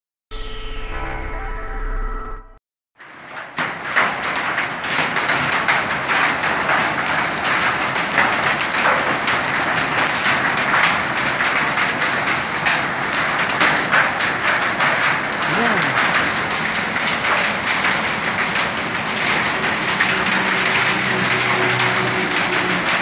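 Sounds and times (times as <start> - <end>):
hail and rain pelting down: 3.0 - 23.0.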